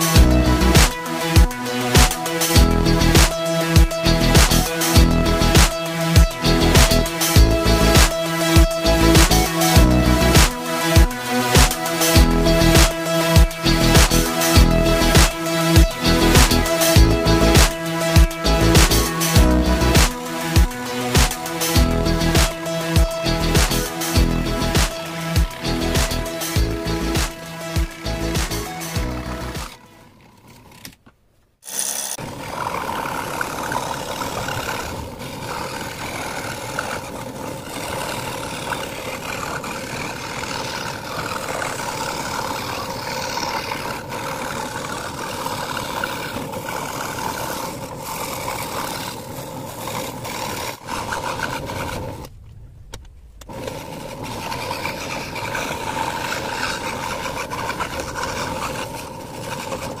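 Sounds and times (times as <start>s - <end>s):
scroll saw cutting plywood: 0.0s - 31.0s, 31.6s - 52.4s, 53.4s - 60.0s.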